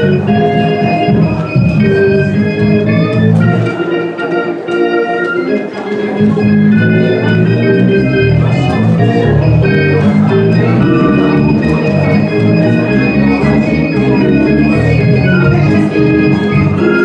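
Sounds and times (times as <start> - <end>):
organ bass line: 0.0 - 17.0
organ playing sustained chords: 0.0 - 17.0.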